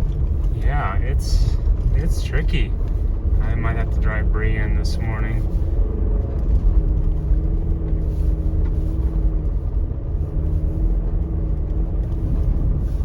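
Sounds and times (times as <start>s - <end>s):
car engine rumbling under load: 0.0s - 13.0s.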